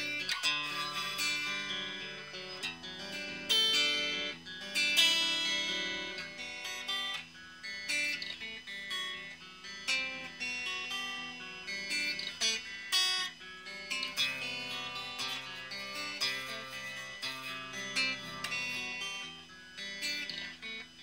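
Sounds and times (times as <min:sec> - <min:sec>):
electric guitar notes and chords: 0:00.0 - 0:21.0.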